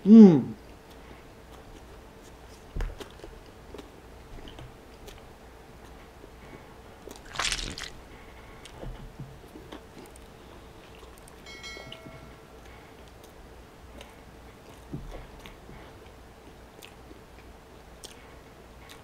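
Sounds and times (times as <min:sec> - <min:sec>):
faint steady hum: 0:00.0 - 0:19.0
chewing with crunches: 0:00.7 - 0:11.4, 0:12.6 - 0:19.0.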